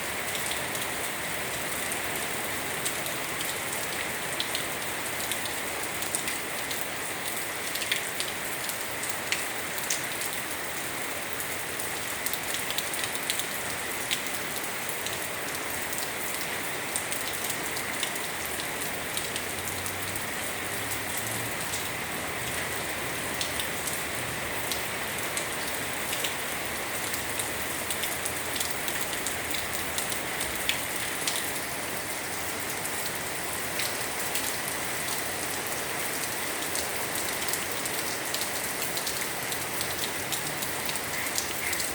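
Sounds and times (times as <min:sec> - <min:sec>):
heavy rain: 0:00.0 - 0:41.9.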